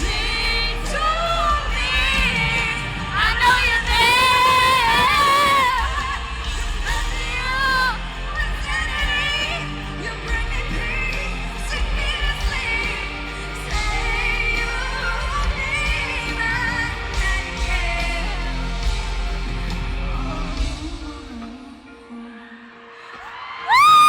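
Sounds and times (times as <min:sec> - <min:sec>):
amplified backing music: 0:00.0 - 0:22.2
woman singing pop ballad: 0:00.0 - 0:24.0.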